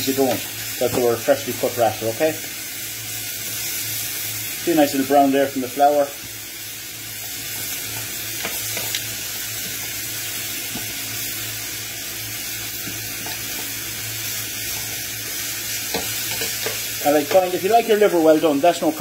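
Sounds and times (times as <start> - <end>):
meat and onions sizzling in a pan: 0.0 - 19.0.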